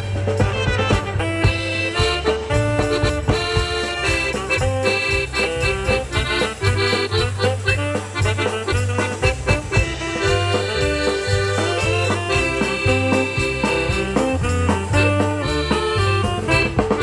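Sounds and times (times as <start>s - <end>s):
accordion: 0.0s - 17.0s
oompah band playing: 0.0s - 17.0s.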